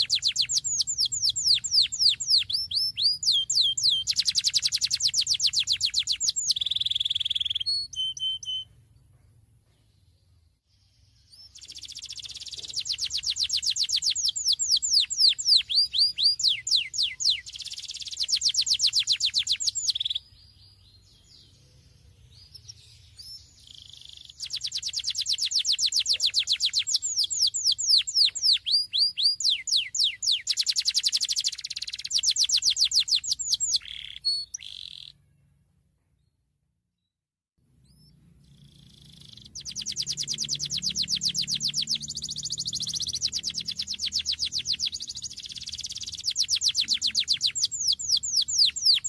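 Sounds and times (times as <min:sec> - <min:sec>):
canary singing trills: 0:00.0 - 0:08.9, 0:10.8 - 0:35.4, 0:37.8 - 0:49.0.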